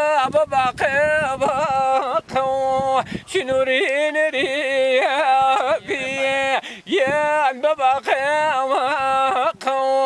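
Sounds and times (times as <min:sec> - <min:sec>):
man singing solo: 0:00.0 - 0:10.0.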